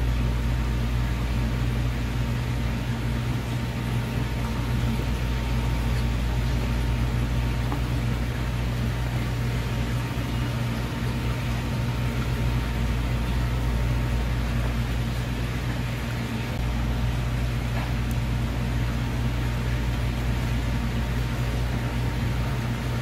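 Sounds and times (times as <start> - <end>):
motor humming: 0.0 - 23.0.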